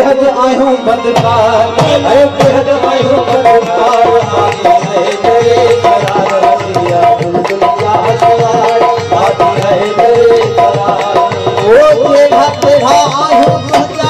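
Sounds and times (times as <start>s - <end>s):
hand drums rhythm: 0.0s - 14.0s.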